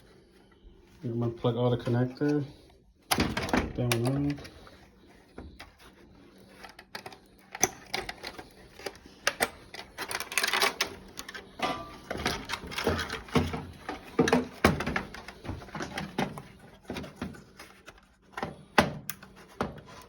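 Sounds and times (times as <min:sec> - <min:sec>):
plastic parts clicking and clattering: 0:03.1 - 0:20.0.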